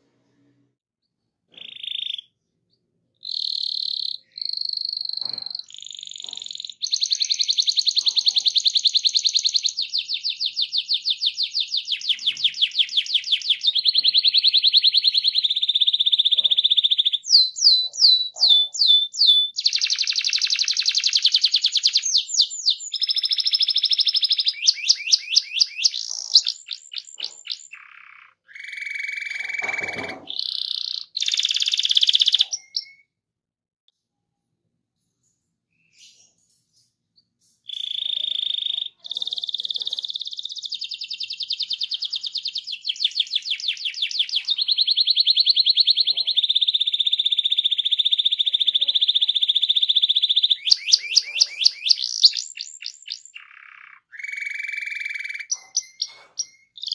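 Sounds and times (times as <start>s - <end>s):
canary singing trills: 1.5s - 33.1s, 35.7s - 56.9s.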